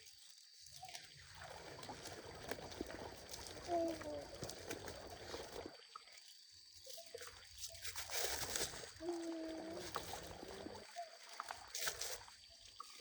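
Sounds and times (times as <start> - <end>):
water sloshing and splashing: 0.1 - 13.0.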